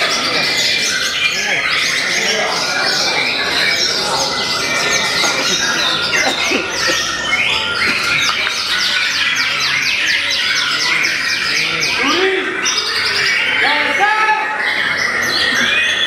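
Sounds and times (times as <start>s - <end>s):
songbirds whistling and chattering: 0.0s - 16.0s.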